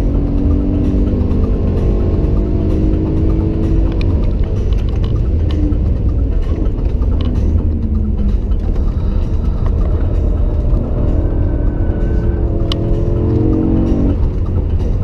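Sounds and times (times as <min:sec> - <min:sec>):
car engine inside cabin: 0:00.0 - 0:15.0
road noise: 0:00.0 - 0:15.0.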